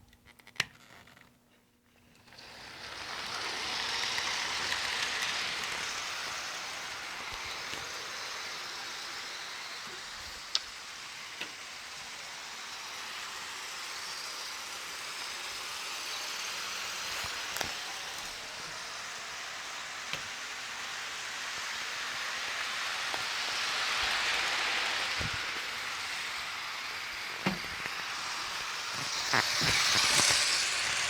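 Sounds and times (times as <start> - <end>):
model train rolling rattle: 2.1 - 31.0.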